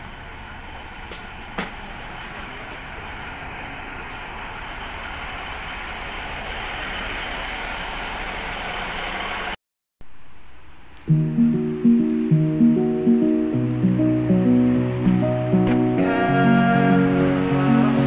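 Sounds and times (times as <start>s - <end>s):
diesel train rushing noise: 0.0s - 9.6s, 11.4s - 18.0s.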